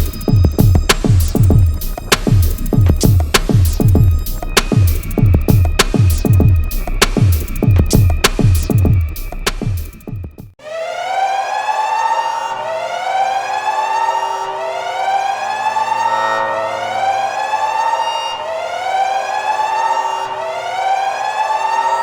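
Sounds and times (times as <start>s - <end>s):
timer alarm siren-like wail: 0.0s - 9.8s, 10.6s - 22.0s.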